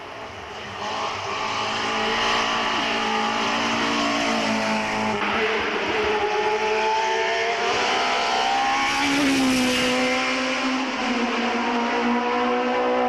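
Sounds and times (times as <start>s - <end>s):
race car engine accelerating: 0.3s - 13.0s.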